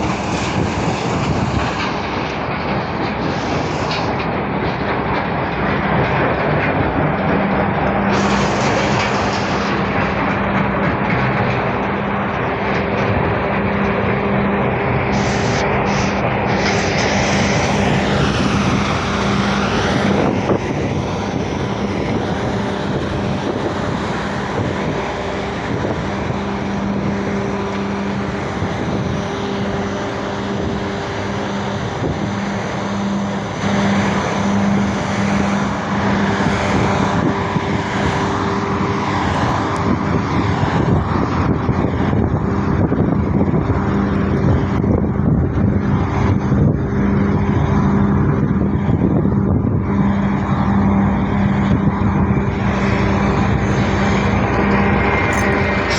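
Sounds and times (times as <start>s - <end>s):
large engine humming: 0.0s - 55.9s.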